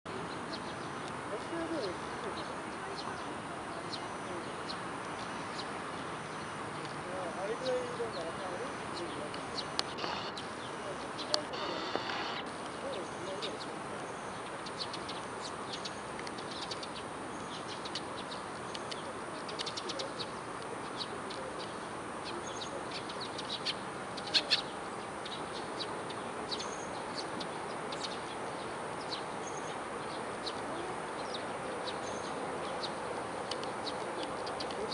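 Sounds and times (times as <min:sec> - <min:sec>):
small birds chirping: 0:00.1 - 0:34.9
steady background noise: 0:00.1 - 0:34.9.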